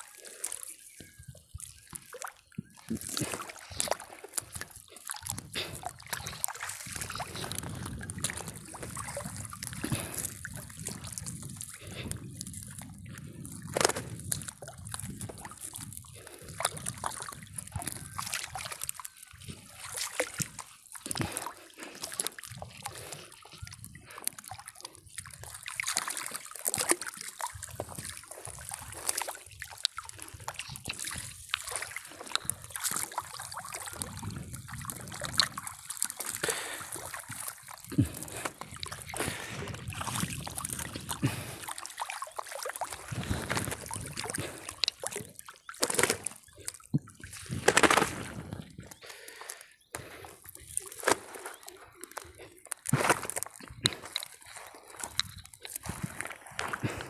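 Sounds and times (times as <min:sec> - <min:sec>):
water dripping and splashing: 0:00.0 - 0:57.0
fish thrashing at water surface: 0:02.1 - 0:57.0.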